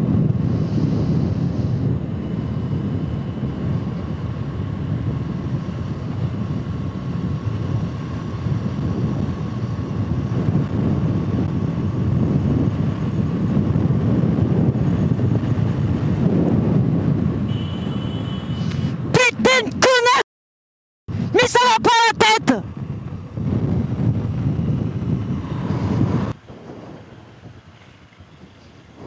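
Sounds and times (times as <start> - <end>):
motorcycle engine running: 0.0 - 18.9, 22.6 - 29.0
road rumble: 0.0 - 20.2, 21.1 - 29.0
wind rushing: 0.0 - 20.2, 21.1 - 27.8.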